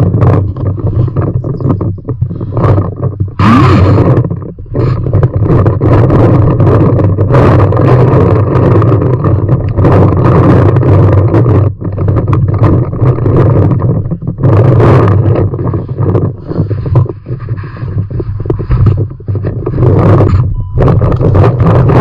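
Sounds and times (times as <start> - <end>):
microphone handling noise: 0.0 - 22.0
wind rumble on microphone: 0.0 - 22.0.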